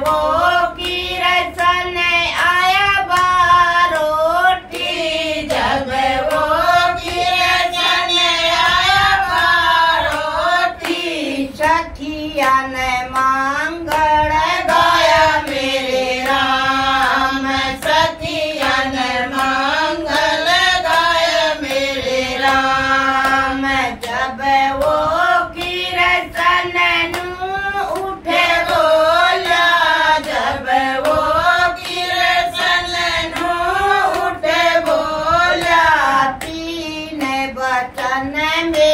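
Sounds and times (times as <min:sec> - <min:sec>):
rhythmic hand clapping: 0:00.0 - 0:38.9
women singing devotional song: 0:00.0 - 0:38.9.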